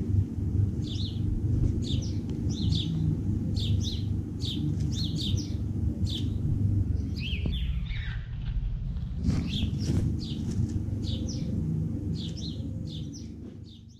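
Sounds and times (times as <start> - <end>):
low rumble: 0.0 - 13.9
bird chirping: 0.8 - 8.5, 9.3 - 11.6, 12.2 - 13.9.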